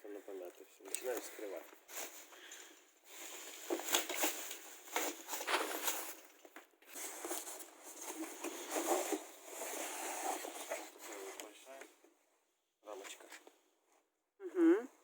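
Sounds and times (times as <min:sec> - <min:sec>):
rustling of wrapping and cardboard: 0:00.0 - 0:14.1.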